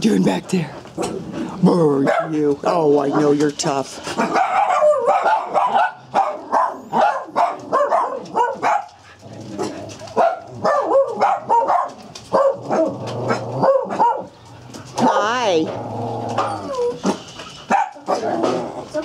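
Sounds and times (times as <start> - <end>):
small dogs barking: 1.0 - 15.6, 16.3 - 19.0.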